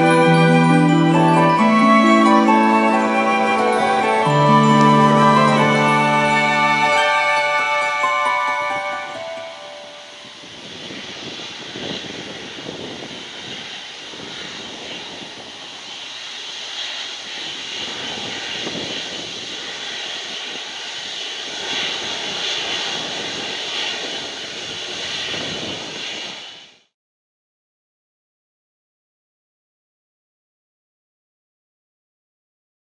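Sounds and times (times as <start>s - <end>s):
jet engines whining: 0.0s - 26.8s.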